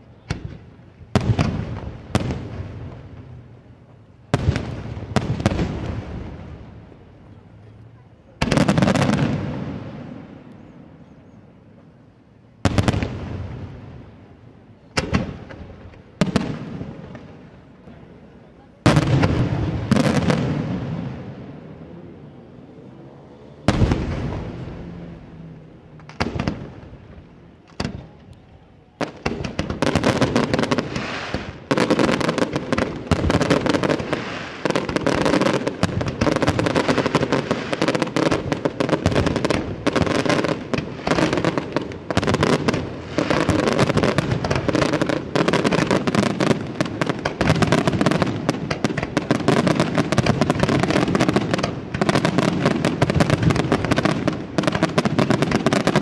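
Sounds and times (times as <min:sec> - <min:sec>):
fireworks bursting: 0:00.0 - 0:07.3, 0:08.2 - 0:11.8, 0:12.6 - 0:56.0
fireworks crackling: 0:00.0 - 0:10.8, 0:12.6 - 0:56.0.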